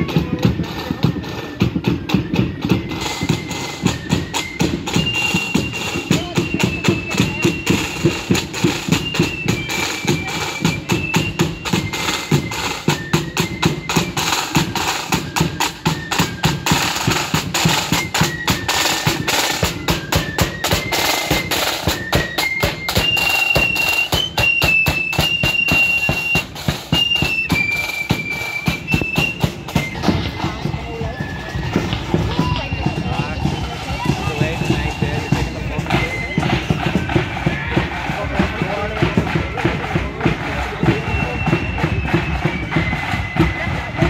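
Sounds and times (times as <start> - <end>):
high melody: 0.0 - 44.0
side drums beating: 0.0 - 44.0.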